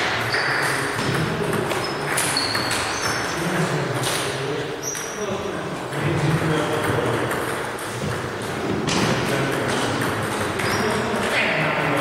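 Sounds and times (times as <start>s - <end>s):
table tennis balls pinging: 0.0s - 12.0s.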